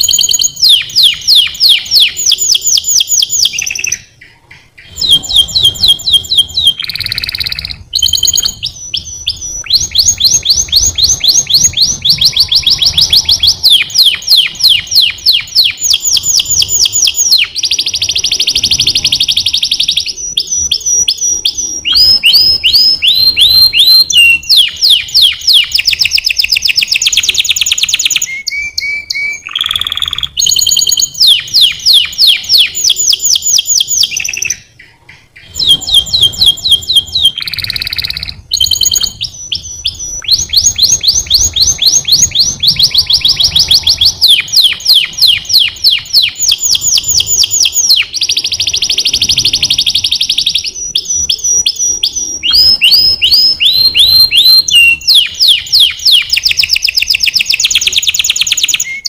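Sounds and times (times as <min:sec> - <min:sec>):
canary singing fast trills: 0:00.0 - 0:59.0.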